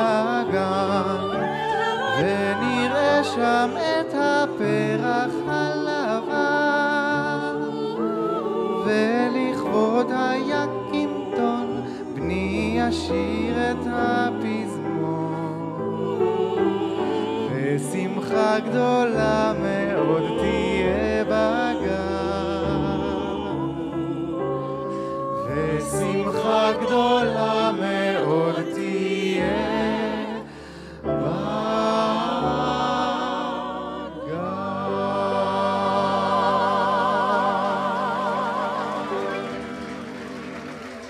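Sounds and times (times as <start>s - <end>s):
vocal ensemble singing in harmony: 0.0s - 41.0s.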